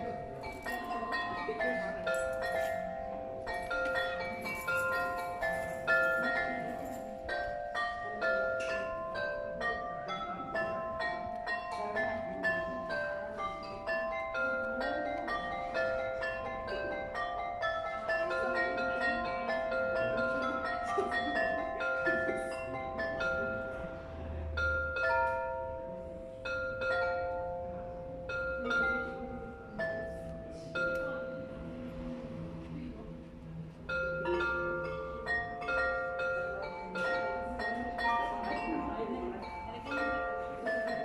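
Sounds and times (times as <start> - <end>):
porcelain bells playing a tune: 0.0 - 41.0.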